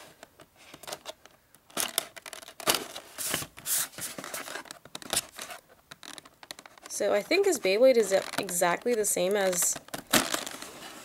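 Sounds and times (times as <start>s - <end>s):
card scraping and rustling: 0.6s - 11.0s.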